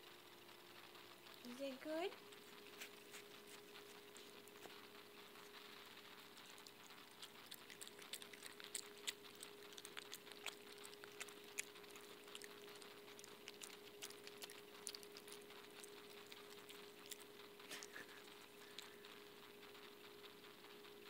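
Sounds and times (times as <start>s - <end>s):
faint steady hum: 0.0s - 21.0s
animal chewing and smacking food: 0.4s - 21.0s.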